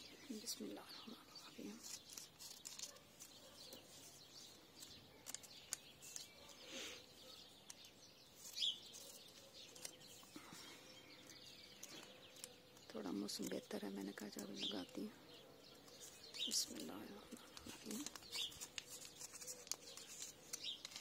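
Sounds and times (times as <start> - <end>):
birds chirping: 0.0 - 21.0
paper packet rustling: 1.5 - 6.9, 7.6 - 15.0, 15.8 - 21.0
scissors snipping paper: 1.6 - 6.7, 7.3 - 10.4, 11.2 - 15.0, 15.9 - 21.0.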